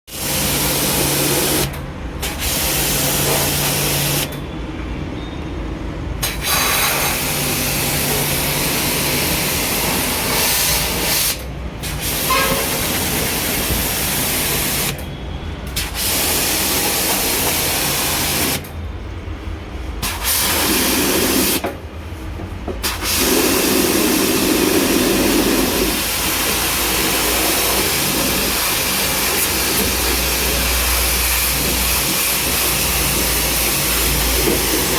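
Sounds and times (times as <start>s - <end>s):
high-pressure water jet spraying: 0.1s - 4.4s, 6.2s - 15.0s, 15.8s - 18.7s, 20.0s - 21.6s, 22.8s - 34.9s.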